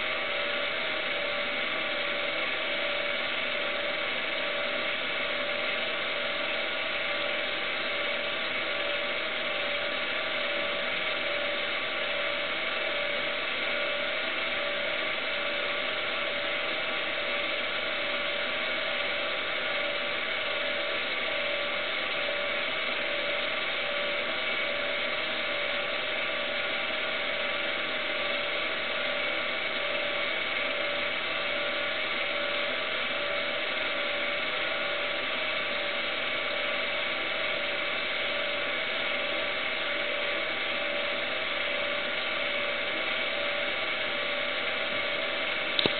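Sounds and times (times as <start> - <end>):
mechanical whirring hum: 0.0 - 45.9.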